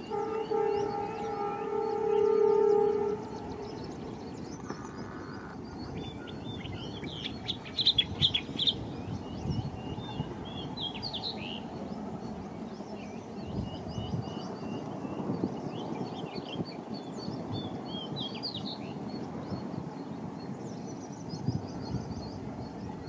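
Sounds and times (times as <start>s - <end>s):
distant train rumble: 0.0s - 23.0s
small birds chirping: 0.0s - 23.0s.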